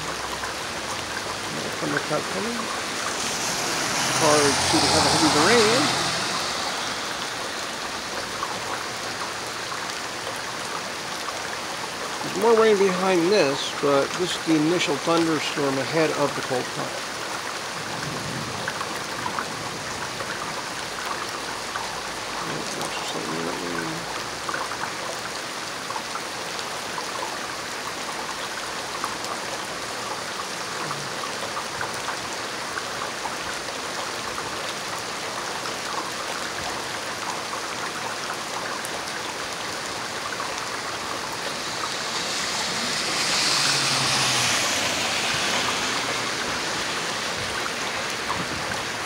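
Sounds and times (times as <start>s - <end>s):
heavy rain pouring: 0.0s - 49.0s.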